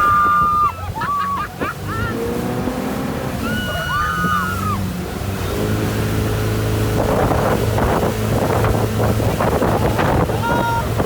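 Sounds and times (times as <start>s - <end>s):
motorboat engine running: 0.0s - 11.0s
water rushing: 0.0s - 11.0s
wind buffeting microphone: 0.0s - 11.0s.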